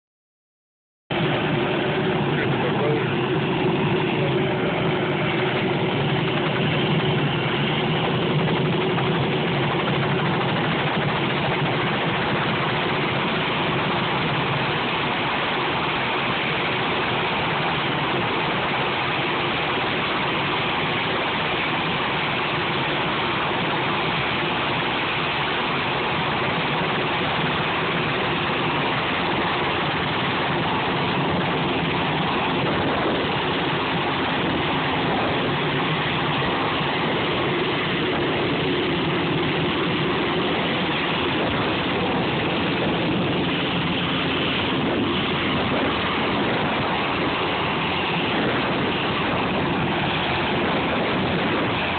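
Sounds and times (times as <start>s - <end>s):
helicopter engine and rotor: 1.1s - 51.9s
low hum: 1.1s - 51.9s.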